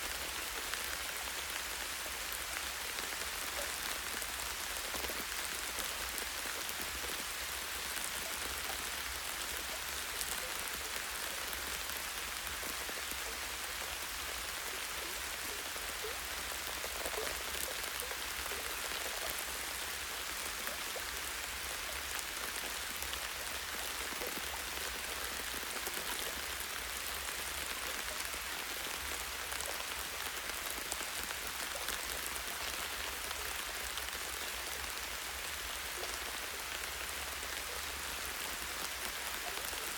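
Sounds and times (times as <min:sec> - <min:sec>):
light rain on leaves: 0:00.0 - 0:39.9.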